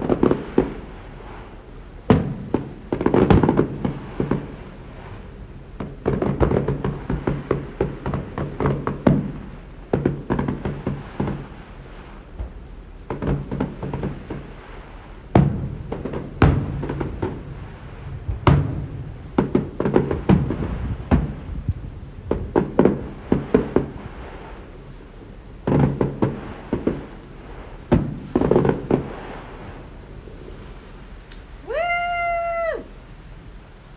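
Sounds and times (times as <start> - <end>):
fireworks banging: 0.0 - 32.9.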